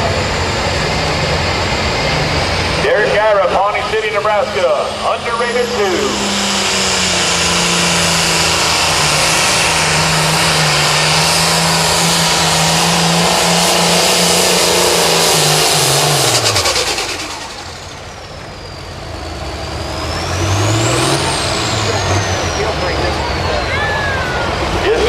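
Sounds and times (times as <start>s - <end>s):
turbo whine: 0.0s - 23.8s
diesel tractor engine under load: 0.0s - 25.0s.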